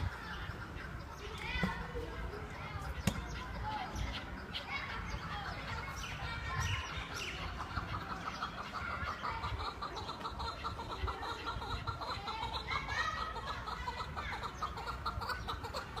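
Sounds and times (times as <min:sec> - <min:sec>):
partridge rising calls: 0:00.0 - 0:16.0.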